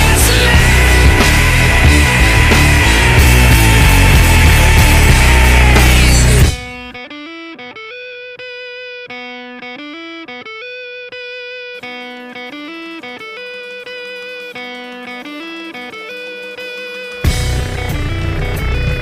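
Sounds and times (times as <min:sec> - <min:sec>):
electric guitar slow melody: 0:00.0 - 0:19.0.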